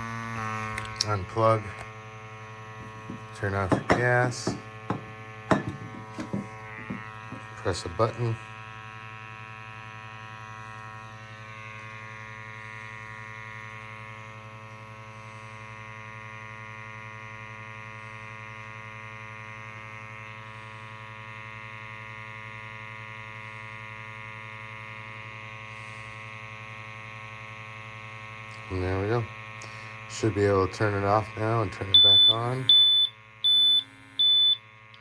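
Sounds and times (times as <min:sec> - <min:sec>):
small pump electric buzz: 0:00.0 - 0:35.0.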